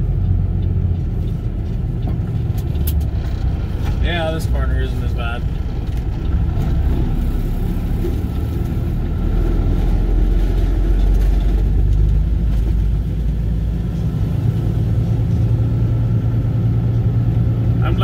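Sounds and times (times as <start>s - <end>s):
diesel truck engine rumble: 0.0s - 18.0s
road noise on gravel: 0.0s - 18.0s.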